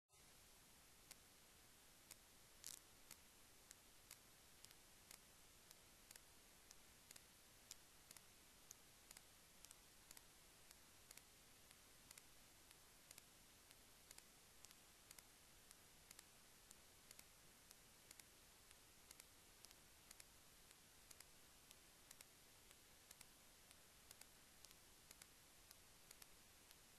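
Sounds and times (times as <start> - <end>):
steady hiss: 0.1 - 26.9
computer mouse clicks: 2.1 - 26.9.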